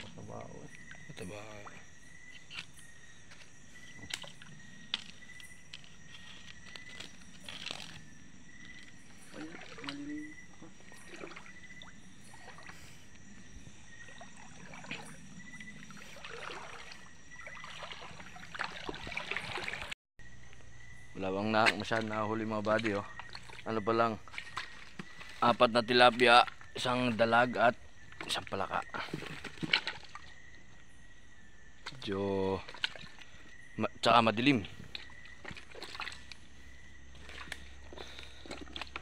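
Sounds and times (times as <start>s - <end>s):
water sloshing and splashing: 0.0s - 20.0s, 21.2s - 39.0s.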